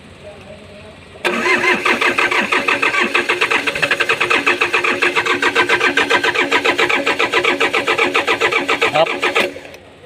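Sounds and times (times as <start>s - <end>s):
diesel engine cranking: 1.0s - 10.0s
starter motor whine: 1.2s - 9.9s.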